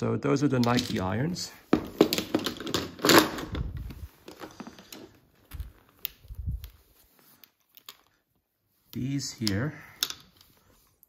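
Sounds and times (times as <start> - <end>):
golf clubs clicking and knocking: 0.6 - 8.2, 8.9 - 11.0.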